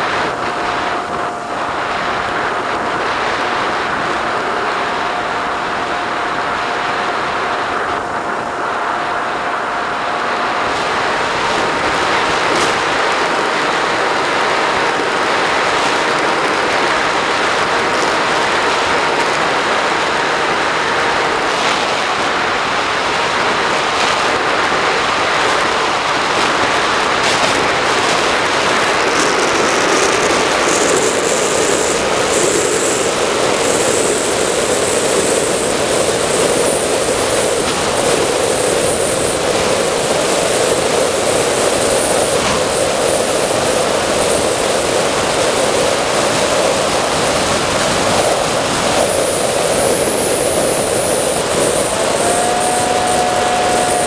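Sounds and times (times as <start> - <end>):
electric motor and propeller whining: 0.0 - 54.0
wind rushing over microphone: 0.0 - 54.0.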